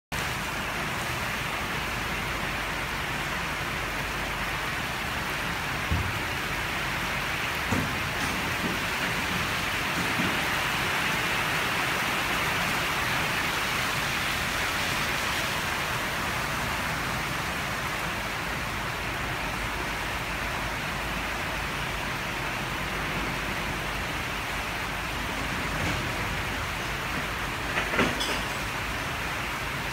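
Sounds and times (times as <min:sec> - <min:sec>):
heavy rain falling: 0:00.1 - 0:29.9.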